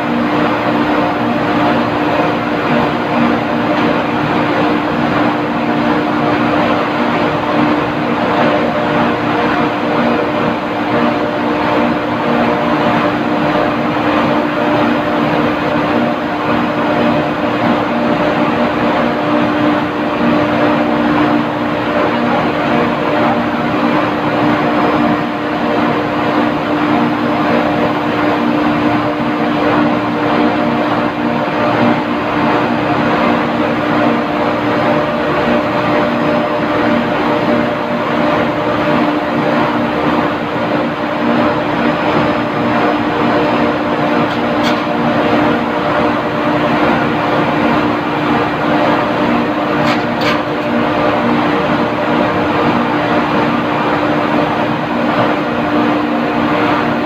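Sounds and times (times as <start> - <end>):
industrial machinery drone: 0.0 - 57.0.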